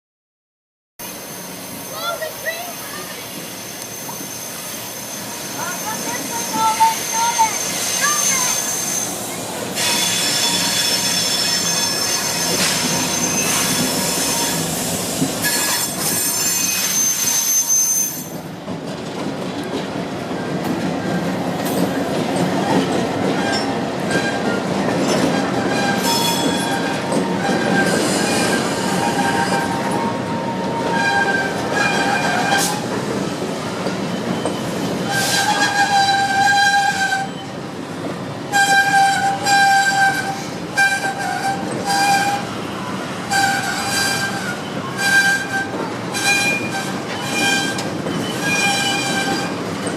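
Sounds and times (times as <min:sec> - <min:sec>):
train wheels squealing: 0:01.0 - 0:18.5, 0:22.6 - 0:33.0, 0:34.0 - 0:37.7, 0:38.5 - 0:49.9
freight train cars rumbling: 0:01.0 - 0:49.9.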